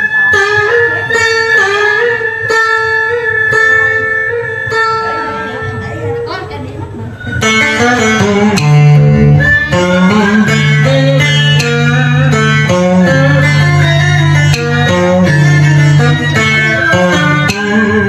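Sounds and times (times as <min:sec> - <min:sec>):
electric guitar melody with bent notes: 0:00.0 - 0:18.0.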